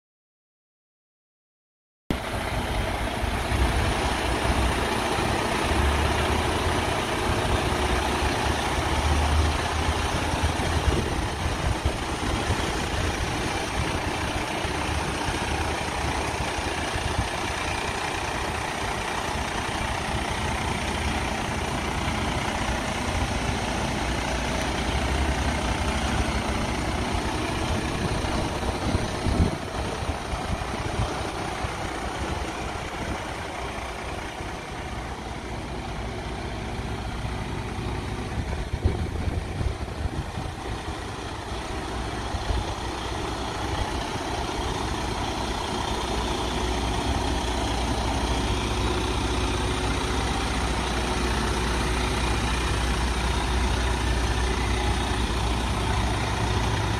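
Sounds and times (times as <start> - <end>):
diesel truck engine idling: 2.1 - 56.9.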